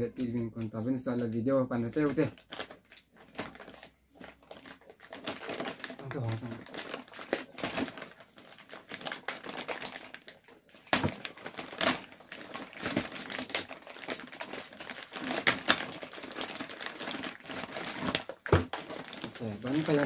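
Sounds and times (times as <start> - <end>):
plastic shrink-wrap crinkling: 0.0 - 20.0
plastic wrap tearing snaps: 1.9 - 20.0.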